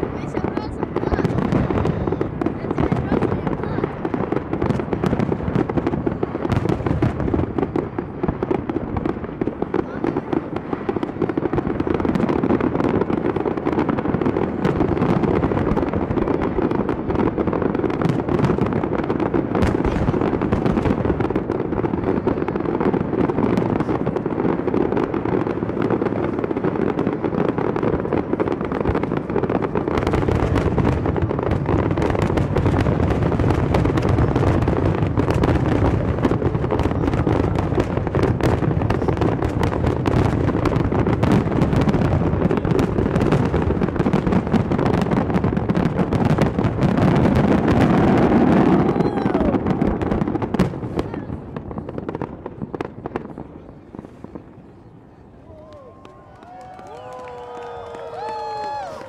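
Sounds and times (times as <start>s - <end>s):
deep fireworks booms: 0.0s - 59.0s
fireworks crackling and popping: 0.0s - 59.0s.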